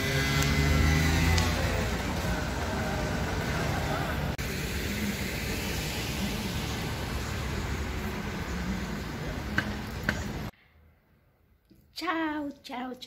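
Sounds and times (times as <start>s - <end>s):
passing traffic: 0.0s - 11.4s.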